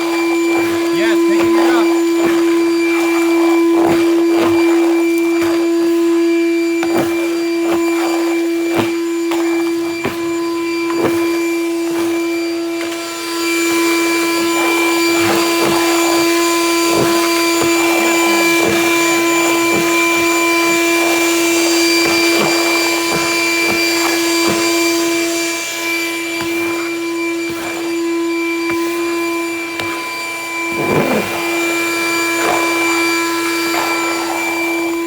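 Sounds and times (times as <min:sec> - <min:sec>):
shop vac motor whine: 0:00.0 - 0:35.0.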